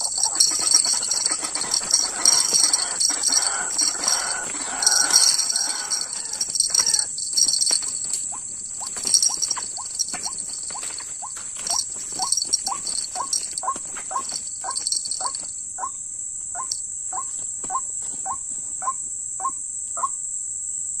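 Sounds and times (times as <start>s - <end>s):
crickets buzzing: 0.0s - 21.0s.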